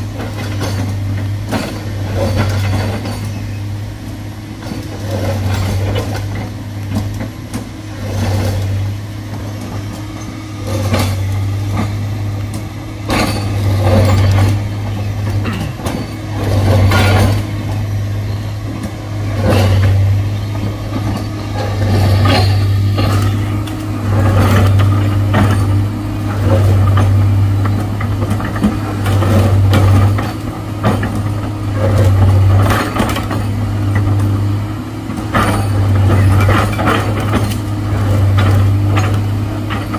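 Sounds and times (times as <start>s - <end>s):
heavy diesel engine surging: 0.0s - 39.9s
knocks and clanks: 4.6s - 39.9s.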